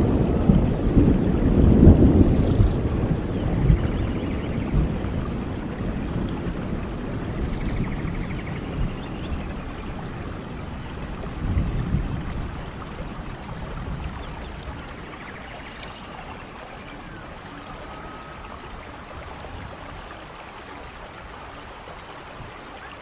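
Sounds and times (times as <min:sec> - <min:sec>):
thunder rumbles: 0:00.0 - 0:20.1
steady rain: 0:00.0 - 0:23.0.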